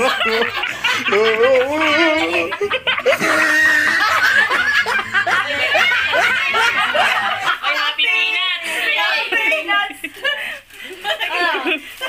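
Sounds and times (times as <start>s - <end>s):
people laughing loudly: 0.0s - 12.0s.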